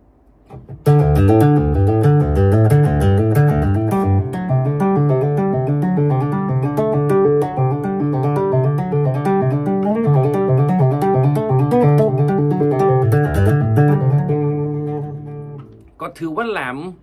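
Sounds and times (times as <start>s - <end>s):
electric bass guitar tapping: 0.4s - 16.0s.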